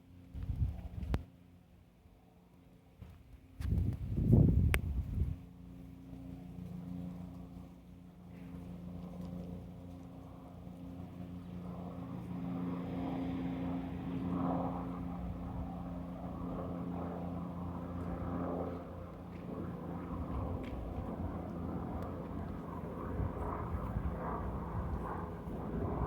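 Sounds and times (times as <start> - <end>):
helicopter passing overhead: 0.0 - 26.0.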